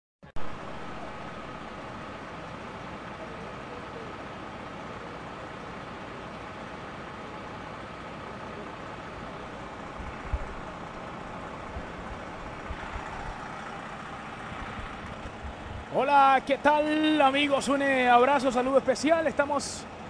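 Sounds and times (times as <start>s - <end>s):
coach bus engine idling: 0.4s - 20.0s.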